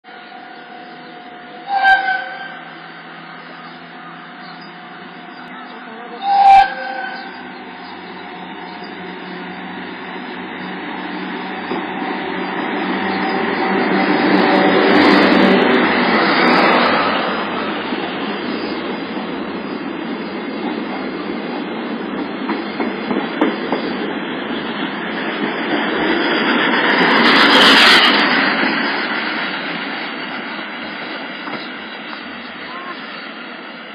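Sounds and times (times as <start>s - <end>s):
train passing close by: 0.0s - 33.9s.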